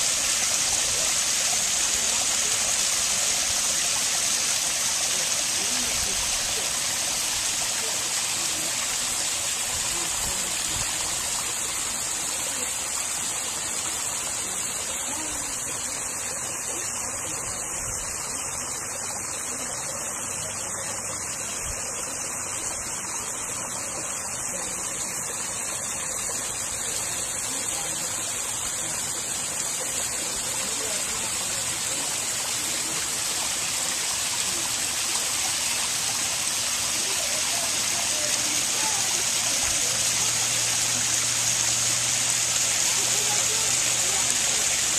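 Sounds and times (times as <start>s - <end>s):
water spilling over rocks: 0.0s - 44.9s.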